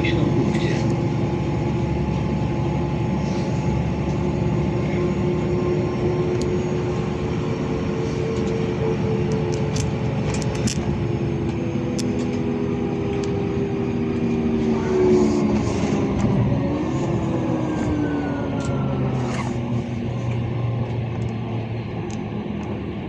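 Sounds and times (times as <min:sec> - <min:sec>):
bus running rumble: 0:00.0 - 0:23.0
drivetrain whine: 0:00.0 - 0:23.0.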